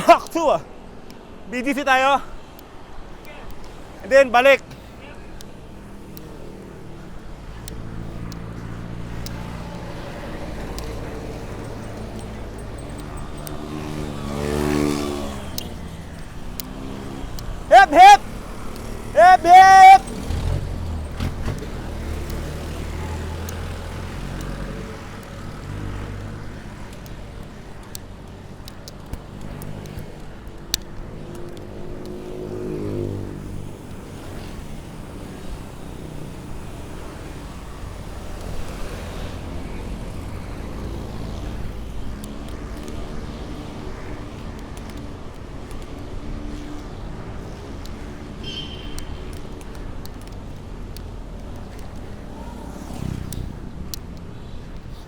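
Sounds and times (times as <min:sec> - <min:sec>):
city road traffic rumble: 0:00.0 - 0:55.0
motor vehicle passing: 0:04.7 - 0:55.0.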